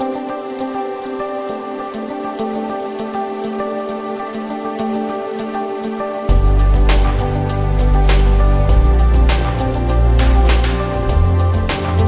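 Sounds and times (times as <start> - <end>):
held music chords: 0.0 - 12.0.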